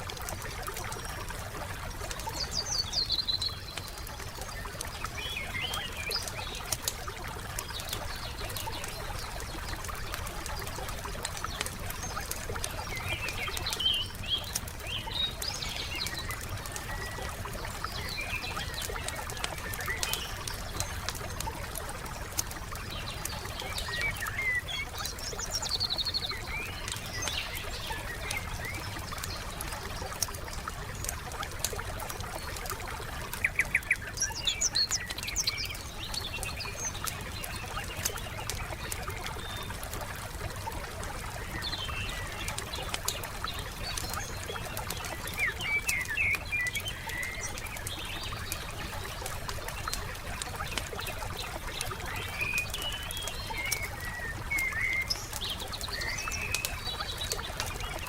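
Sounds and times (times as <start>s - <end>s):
campfire crackling and popping: 0.0s - 58.0s
songbirds chirping: 0.0s - 58.0s.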